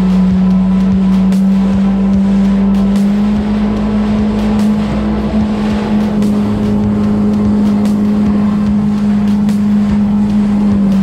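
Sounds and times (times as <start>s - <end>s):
jet ski engine drone: 0.0s - 11.0s
water spraying off hull: 0.0s - 11.0s.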